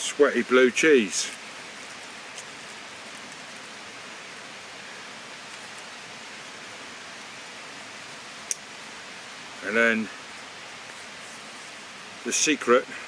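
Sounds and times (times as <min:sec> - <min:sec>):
stream rushing over waterfalls: 0:00.0 - 0:13.0.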